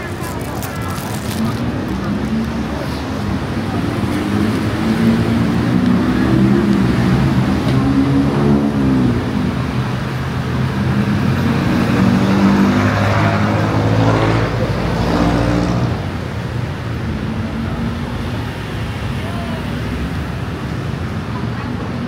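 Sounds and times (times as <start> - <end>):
car and motorcycle engines passing: 0.0 - 22.0.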